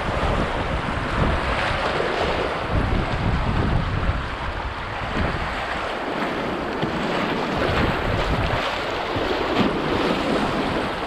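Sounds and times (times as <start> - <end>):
whitewater rushing and splashing: 0.0 - 11.0
wind rumbling on microphone: 0.0 - 11.0.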